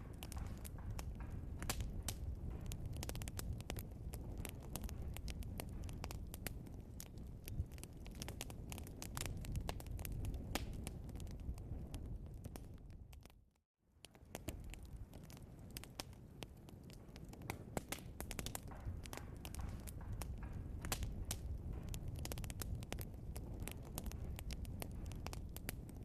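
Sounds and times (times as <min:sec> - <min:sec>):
log fire crackling and popping: 0:00.0 - 0:26.0.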